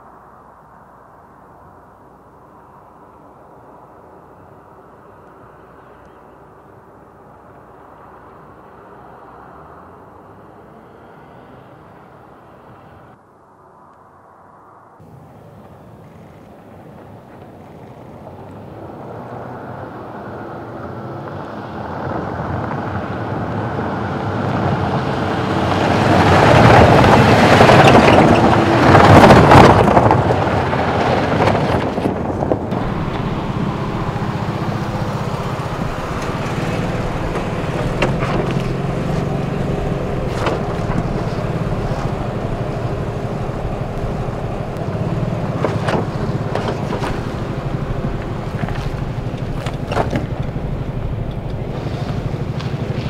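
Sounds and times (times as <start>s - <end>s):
vehicle engines on dirt trail: 0.0s - 13.2s, 15.0s - 53.0s.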